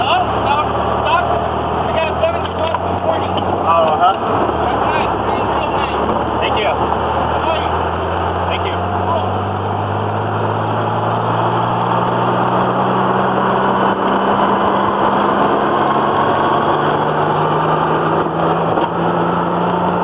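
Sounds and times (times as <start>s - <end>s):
car engine drone: 0.0s - 20.0s
road and wind rush: 0.0s - 20.0s.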